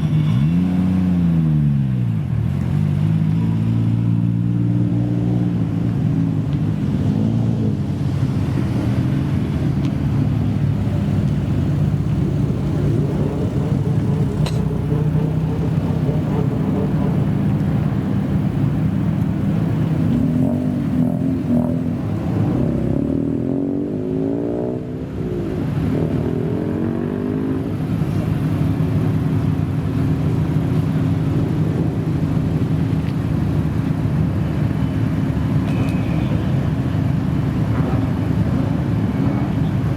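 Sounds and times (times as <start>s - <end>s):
car engine running deep: 0.0s - 39.9s.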